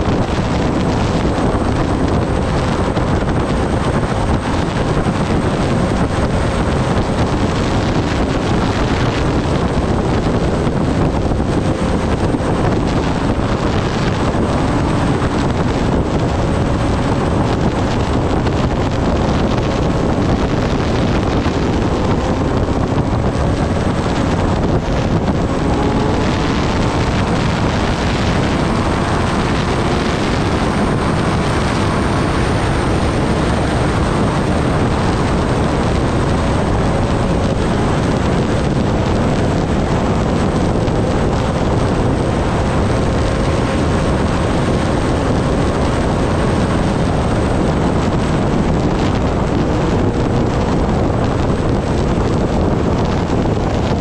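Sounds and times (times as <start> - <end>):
motorcycle engine cruising: 0.0 - 54.0
wind rushing on microphone: 0.0 - 54.0.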